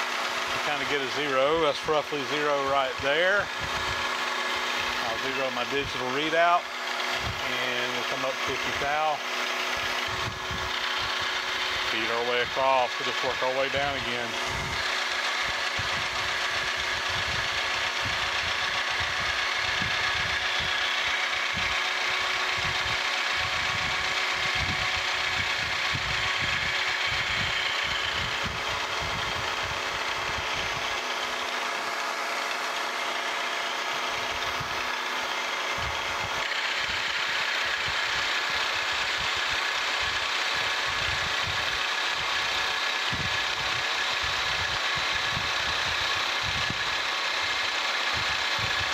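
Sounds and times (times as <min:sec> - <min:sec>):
milling machine spindle hum: 0:00.0 - 0:48.9.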